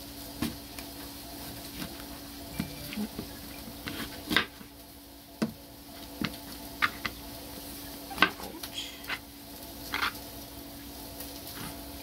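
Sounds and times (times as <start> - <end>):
sausage sizzling in pan: 0.0 - 12.0
steady low hum: 0.0 - 12.0.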